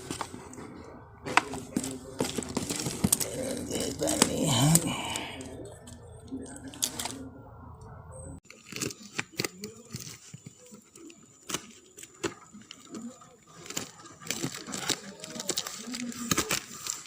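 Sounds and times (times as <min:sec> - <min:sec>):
low background hum: 0:00.0 - 0:17.0
wrapping crinkling and tearing: 0:01.3 - 0:07.2, 0:08.4 - 0:17.0.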